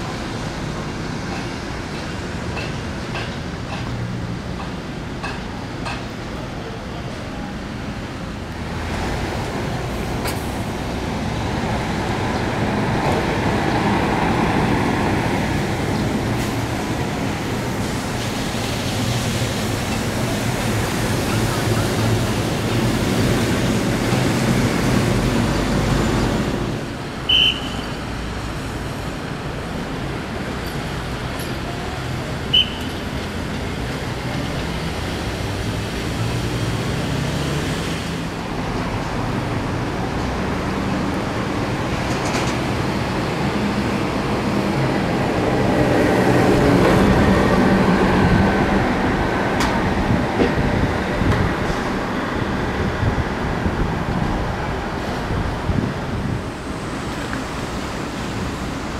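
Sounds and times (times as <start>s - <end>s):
road traffic noise: 0.0s - 58.9s.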